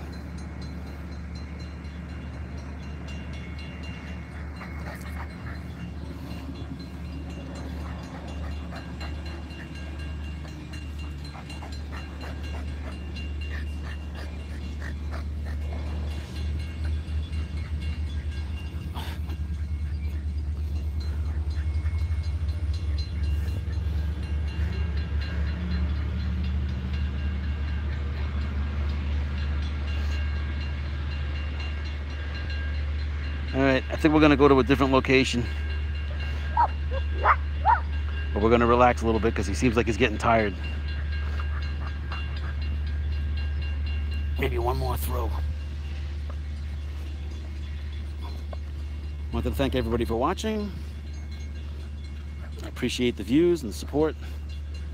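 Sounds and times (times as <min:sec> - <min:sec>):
diesel train rumbling: 0:00.0 - 0:54.9.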